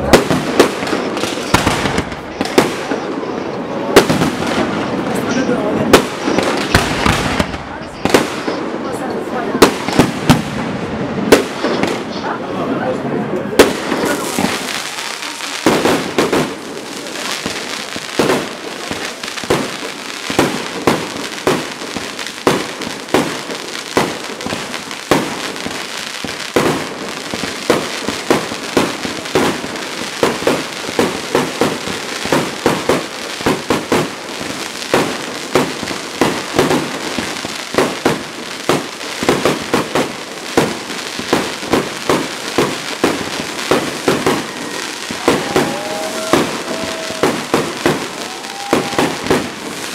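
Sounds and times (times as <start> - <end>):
fireworks crackle: 0.0 - 49.9.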